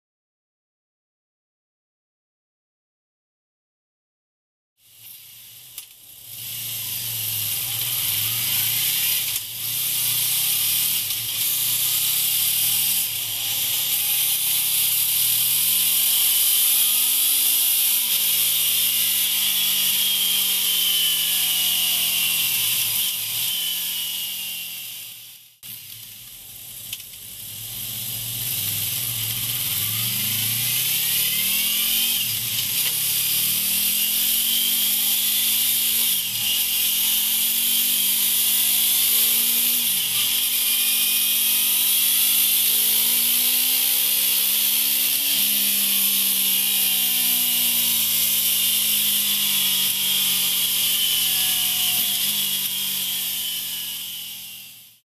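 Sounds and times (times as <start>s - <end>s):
motorcycle engine revving: 5.7s - 53.8s.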